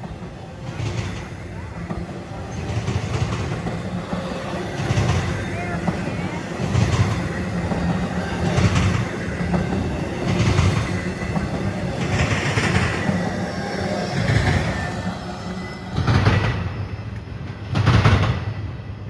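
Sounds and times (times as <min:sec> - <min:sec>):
train wheels clacking on rail joints: 0:00.0 - 0:18.7
freight train rumble: 0:00.0 - 0:19.0.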